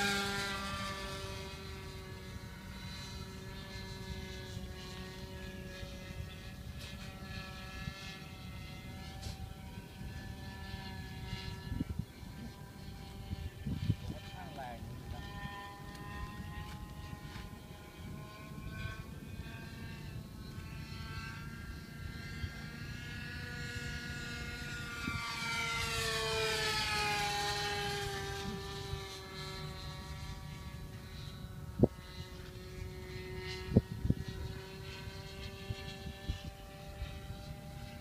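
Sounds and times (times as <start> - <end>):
model airplane engine buzzing: 0.0 - 38.0.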